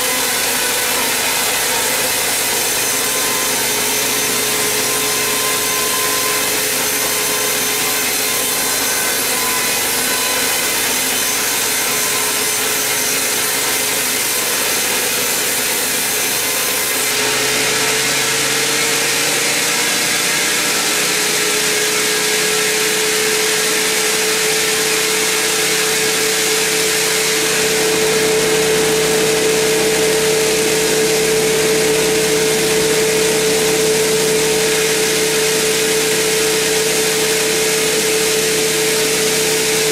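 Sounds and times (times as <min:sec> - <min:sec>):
band saw cutting log: 0:00.0 - 0:39.9
saw running free: 0:00.0 - 0:39.9.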